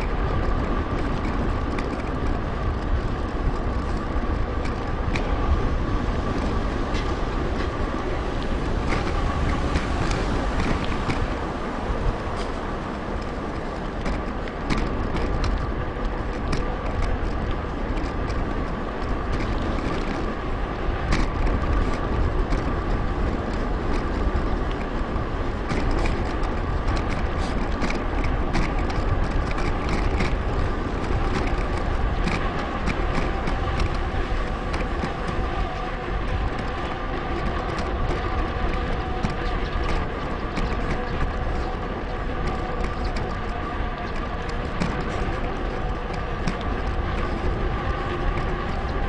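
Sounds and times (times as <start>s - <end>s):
bike clicks and rattles: 0.0s - 49.0s
wind rushing on microphone: 0.0s - 49.0s.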